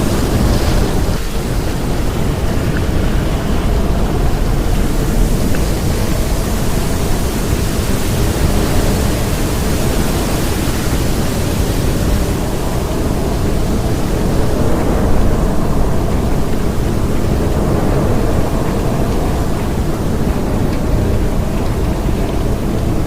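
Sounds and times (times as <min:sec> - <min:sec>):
rain: 0:00.0 - 0:23.0
wind: 0:00.0 - 0:23.0.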